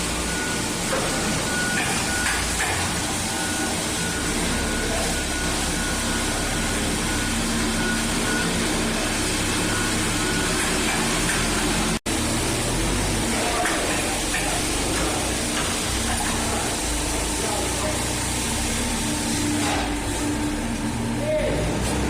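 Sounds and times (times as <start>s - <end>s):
plate-rolling machine running: 0.0s - 22.0s.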